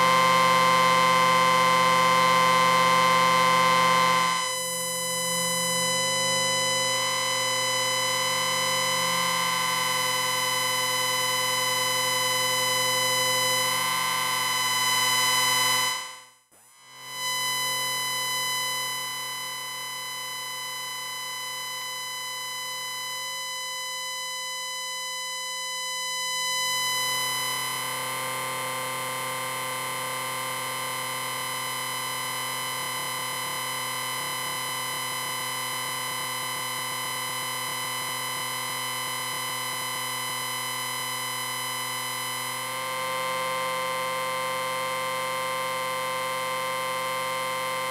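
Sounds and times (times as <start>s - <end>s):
amplifier electronic whine: 0.0s - 47.9s.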